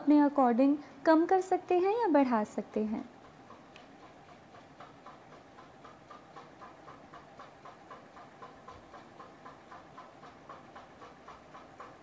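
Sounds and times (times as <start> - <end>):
faint regular ticking: 0.0 - 12.0.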